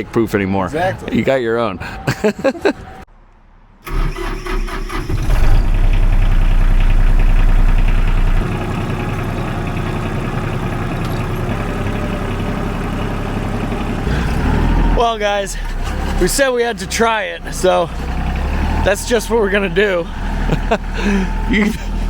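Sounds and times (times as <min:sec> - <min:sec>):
tractor diesel engine running: 0:03.8 - 0:22.0.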